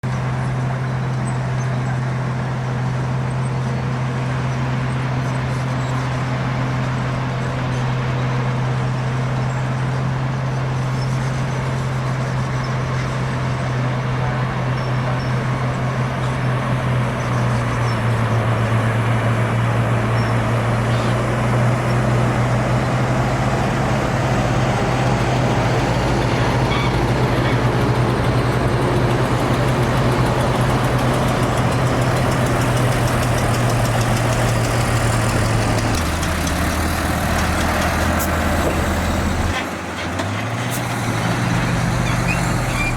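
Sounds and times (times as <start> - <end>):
heavy diesel engine drone: 0.0 - 42.9.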